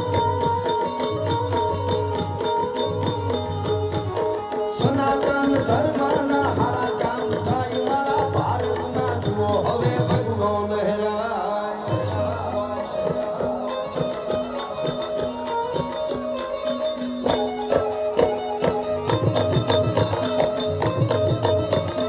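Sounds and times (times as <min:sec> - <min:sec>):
hand drum rhythm: 0:00.0 - 0:11.0, 0:11.8 - 0:22.0.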